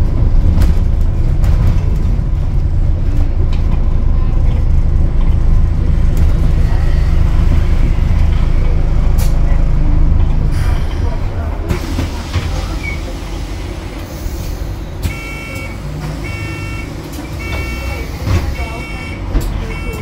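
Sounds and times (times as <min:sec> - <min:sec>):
bus drivetrain and road drone: 0:00.0 - 0:20.0.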